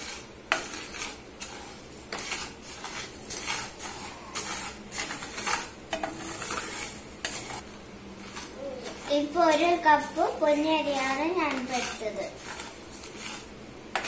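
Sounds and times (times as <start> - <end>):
spatula scraping rice in pan: 0.0 - 14.0.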